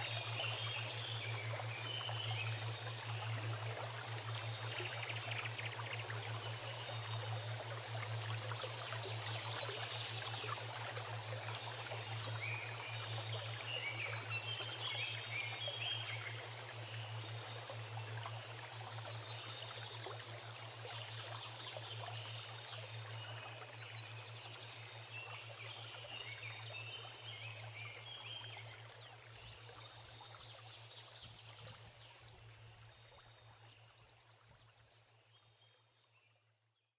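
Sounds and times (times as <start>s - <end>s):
stream water running: 0.0s - 36.6s.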